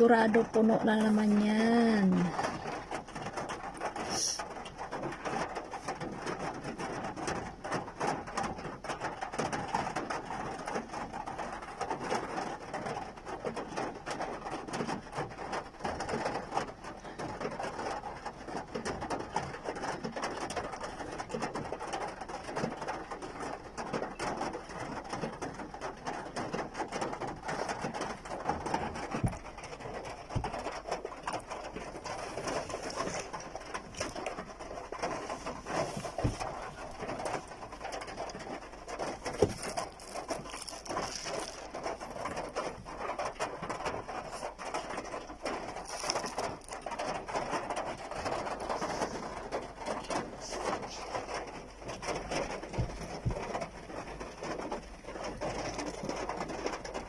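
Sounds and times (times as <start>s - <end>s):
heavy rain on car: 0.0s - 57.0s.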